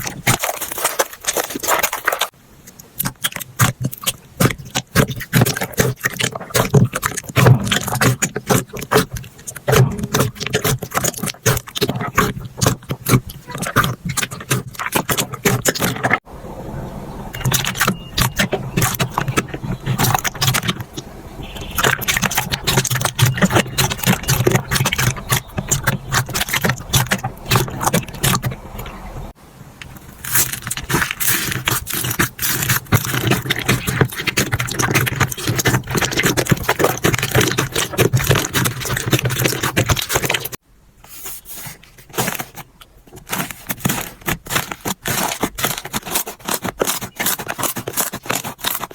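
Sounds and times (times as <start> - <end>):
slime squelching and crackling: 0.0 - 16.2, 17.3 - 48.9.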